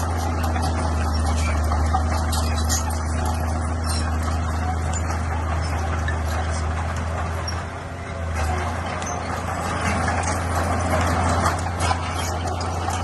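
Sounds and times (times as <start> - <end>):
bulldozer diesel engine humming: 0.0 - 13.0.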